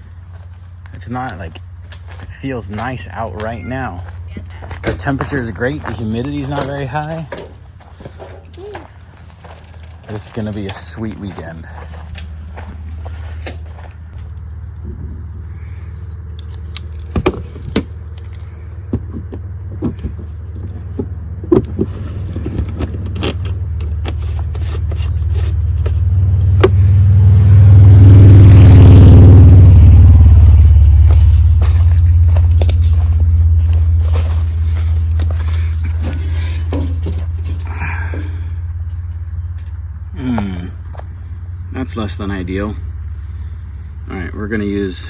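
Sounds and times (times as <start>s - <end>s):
vehicle engine humming: 0.0s - 45.0s.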